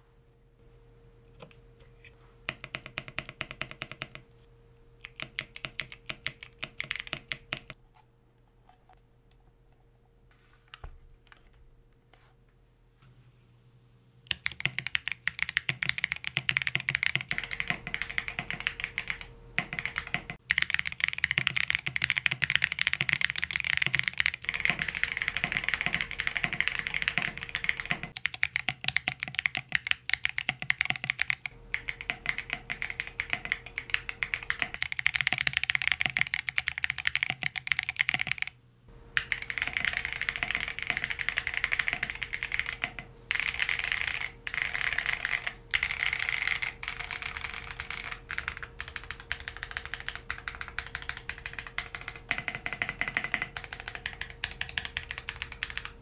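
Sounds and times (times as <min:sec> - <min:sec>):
fast mechanical keyboard typing: 0:02.5 - 0:04.2, 0:05.0 - 0:07.8, 0:14.3 - 0:38.6, 0:39.2 - 0:56.0.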